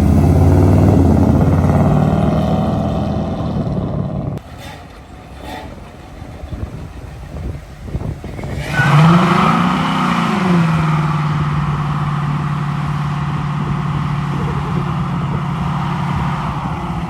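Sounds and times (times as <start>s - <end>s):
car engine revving: 0.0s - 4.4s, 7.4s - 17.0s.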